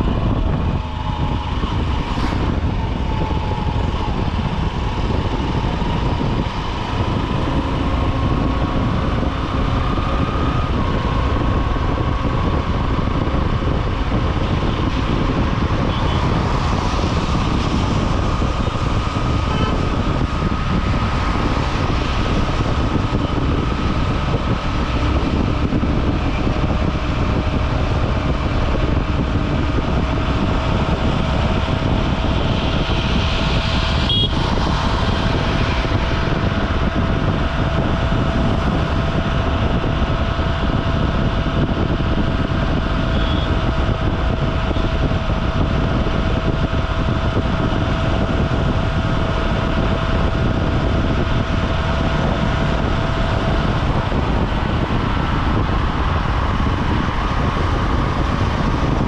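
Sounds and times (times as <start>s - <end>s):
motorcycle engine running: 0.0s - 59.0s
road noise: 0.0s - 59.0s
wind noise: 0.0s - 59.0s.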